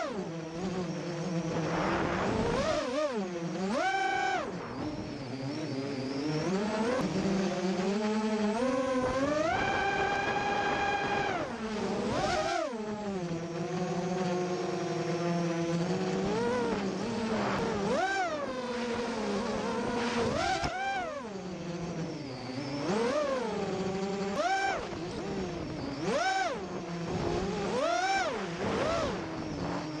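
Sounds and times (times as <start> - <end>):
quadcopter motors whining: 0.0 - 30.0.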